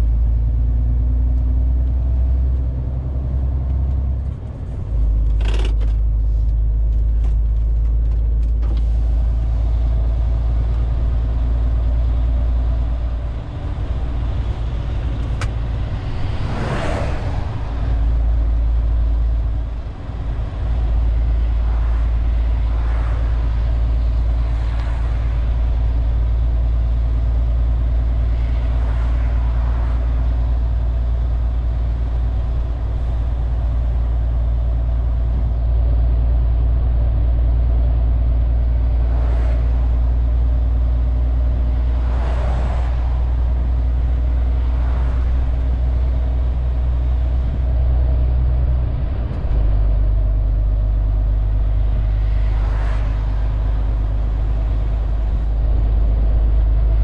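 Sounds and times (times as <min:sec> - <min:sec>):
road noise: 0:00.0 - 0:57.0
truck diesel engine droning: 0:00.0 - 0:57.0
vehicles swishing by: 0:00.0 - 0:57.0.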